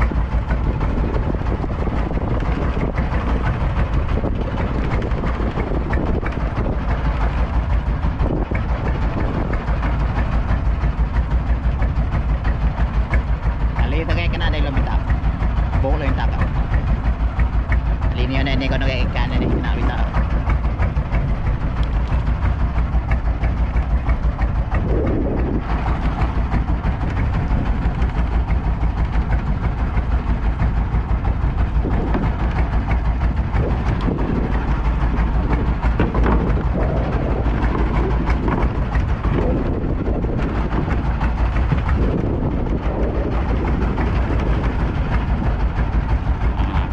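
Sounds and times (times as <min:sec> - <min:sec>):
boat engine rumbling: 0:00.0 - 0:46.9.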